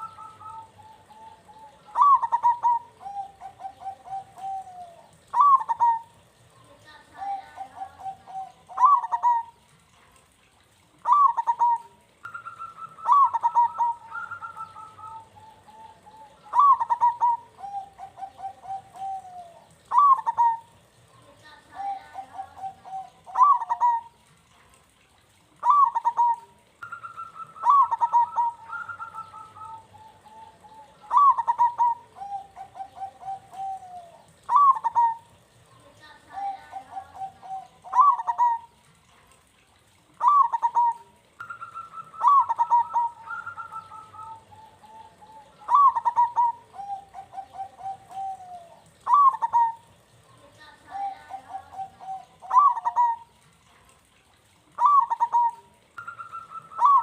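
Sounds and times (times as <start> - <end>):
dove cooing: 0.0 - 10.0, 10.8 - 38.9, 39.5 - 53.8, 54.7 - 57.0.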